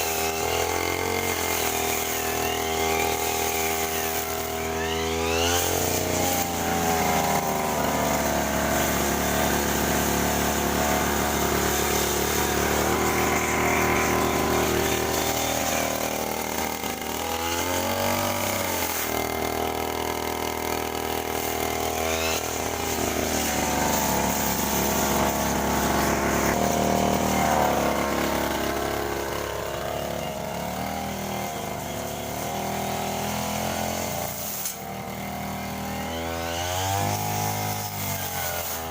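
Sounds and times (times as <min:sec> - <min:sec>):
grass cutter engine running: 0:00.0 - 0:38.9.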